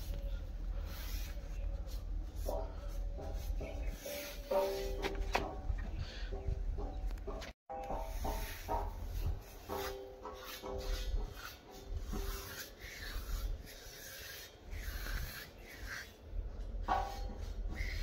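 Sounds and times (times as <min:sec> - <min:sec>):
paintbrush rasping on metal: 0:00.8 - 0:05.1, 0:07.8 - 0:18.0.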